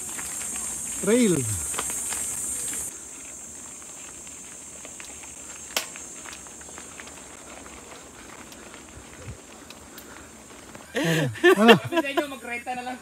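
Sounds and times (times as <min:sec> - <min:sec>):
bike tyres rumbling on dirt: 0:00.0 - 0:13.0
tyres crackling over gravel: 0:00.0 - 0:13.0.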